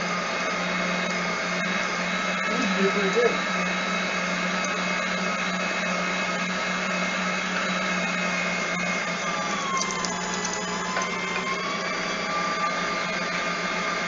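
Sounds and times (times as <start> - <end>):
meat grinder motor humming: 0.0 - 14.0.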